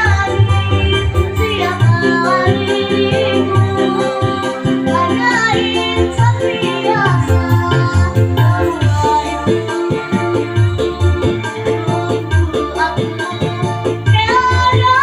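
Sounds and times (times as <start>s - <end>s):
child singing: 0.0s - 15.0s
electronic keyboard with bass rhythm: 0.0s - 15.0s.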